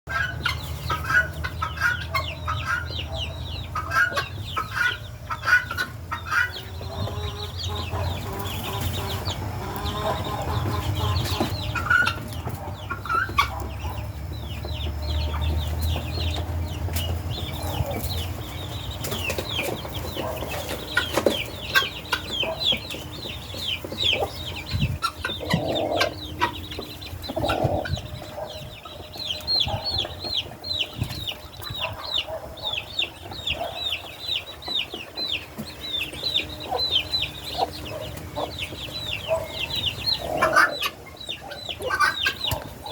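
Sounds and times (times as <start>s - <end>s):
guineafowl high-pitched calls: 0.1s - 42.9s
hens clucking: 0.1s - 42.9s.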